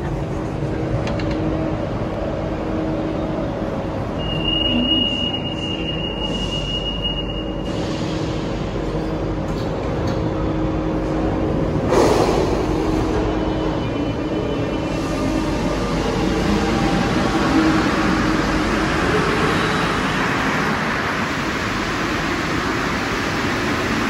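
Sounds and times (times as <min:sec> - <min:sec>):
metro train running drone: 0:00.0 - 0:24.0.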